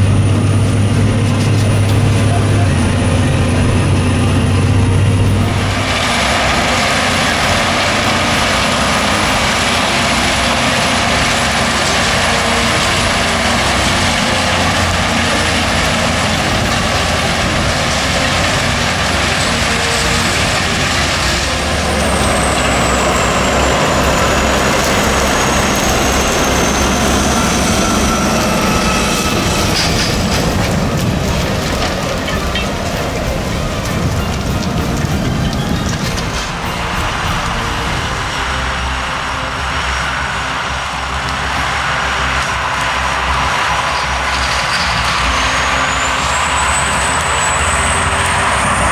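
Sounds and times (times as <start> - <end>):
cultivator rushing through stubble: 0.0 - 48.9
tractor diesel engine under load: 0.0 - 48.9.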